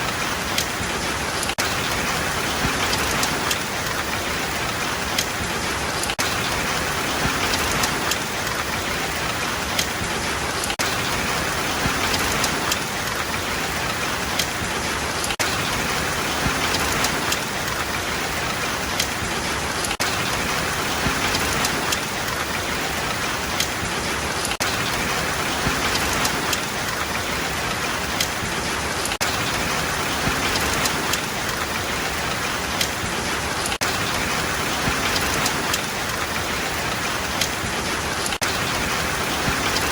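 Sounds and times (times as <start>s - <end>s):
rain pattering on hard surface: 0.0s - 39.9s.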